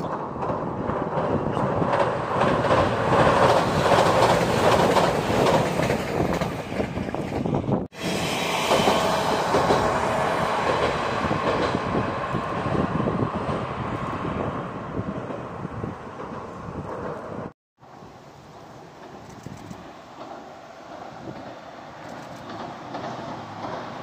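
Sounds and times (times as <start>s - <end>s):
train wheels clattering on rails: 0.0s - 17.5s, 18.7s - 24.0s
diesel railcar running: 0.0s - 24.0s.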